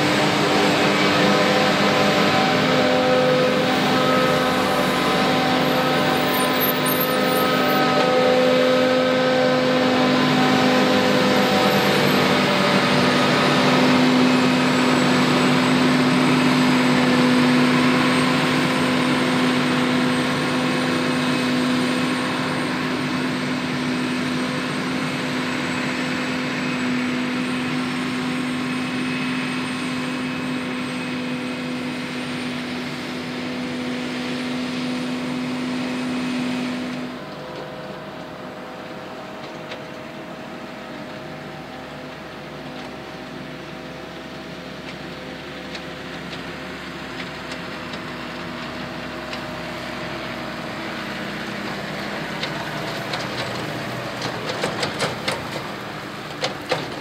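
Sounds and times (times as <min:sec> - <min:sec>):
forage harvester mechanical hum: 0:00.0 - 0:57.0.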